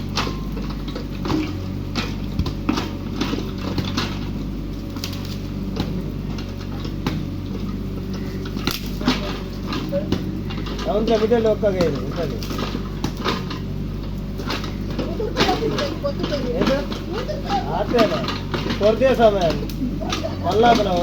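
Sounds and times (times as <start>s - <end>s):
clicks and knocks: 0.0s - 21.0s
excavator diesel engine running: 0.0s - 21.0s.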